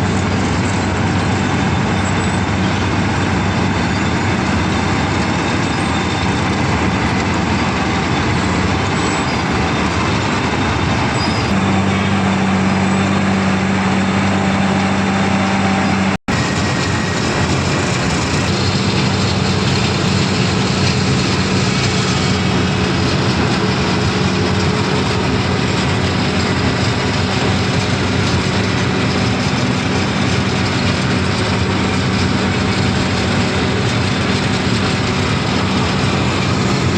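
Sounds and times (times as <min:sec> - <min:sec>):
constant low hum: 0:00.0 - 0:36.9
milling machinery running: 0:00.0 - 0:36.9.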